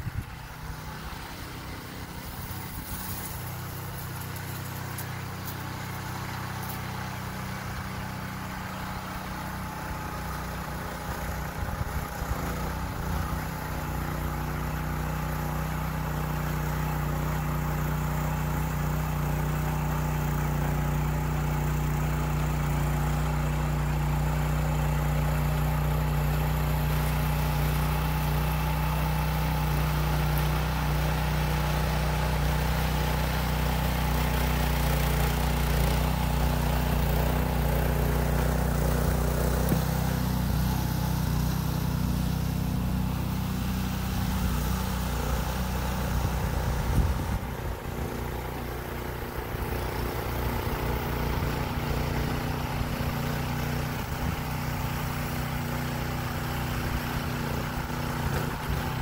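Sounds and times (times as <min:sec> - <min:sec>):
rototiller engine running: 0:00.0 - 0:59.0.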